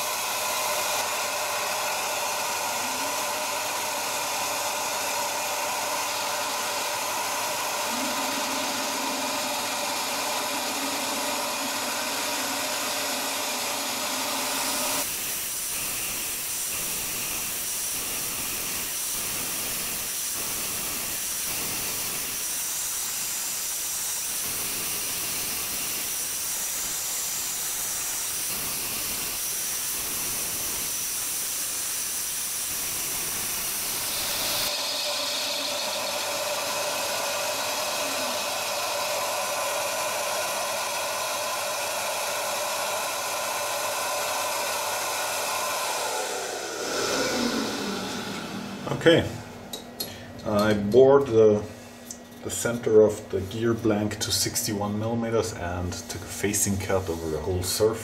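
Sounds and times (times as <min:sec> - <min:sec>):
lathe cutting: 0:00.0 - 0:49.8
shop vacuum running: 0:00.0 - 0:58.0.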